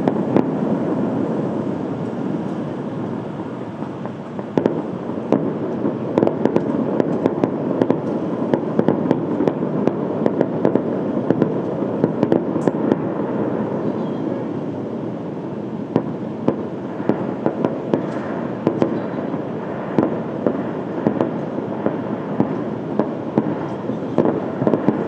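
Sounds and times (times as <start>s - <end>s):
fireworks crackling bangs: 0.0s - 25.0s
fireworks rumble: 0.0s - 25.0s.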